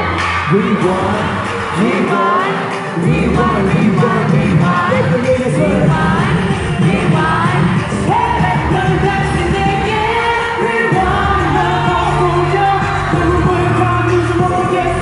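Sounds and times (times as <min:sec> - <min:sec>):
loud pop backing track: 0:00.0 - 0:15.0
men singing into microphones: 0:00.0 - 0:15.0
steady bass line: 0:03.0 - 0:15.0.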